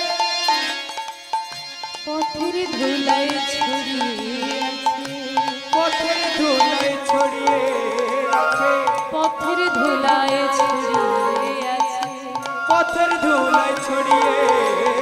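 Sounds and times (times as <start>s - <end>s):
devotional melody: 0.0s - 15.0s
hand-drum strokes: 0.8s - 15.0s.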